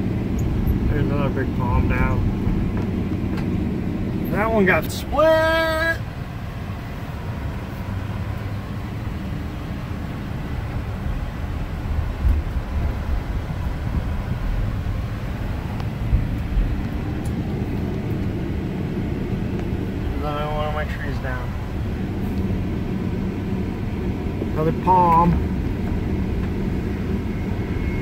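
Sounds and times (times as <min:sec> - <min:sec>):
vehicle engine and road rumble: 0:00.0 - 0:28.0.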